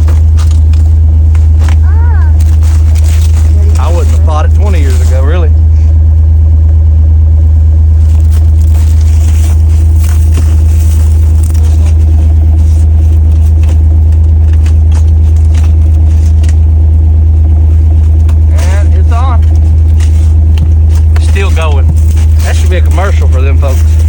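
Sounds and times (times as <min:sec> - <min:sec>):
icy branches scraping and breaking: 0:00.0 - 0:05.5, 0:07.9 - 0:24.0
off-road vehicle engine droning: 0:00.0 - 0:24.0.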